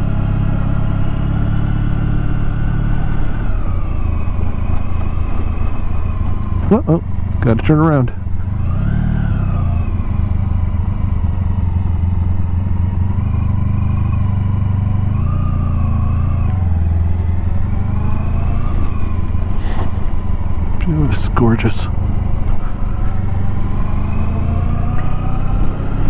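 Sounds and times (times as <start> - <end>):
motorcycle engine at low speed: 0.0 - 26.0.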